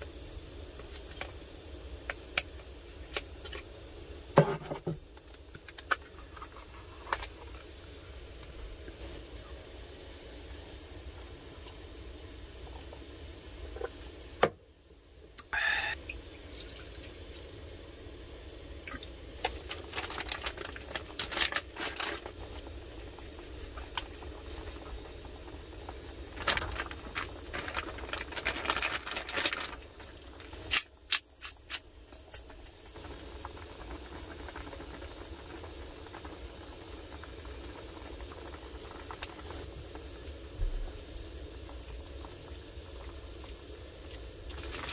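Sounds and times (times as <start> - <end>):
broth simmering: 0.0 - 31.2, 31.8 - 44.9.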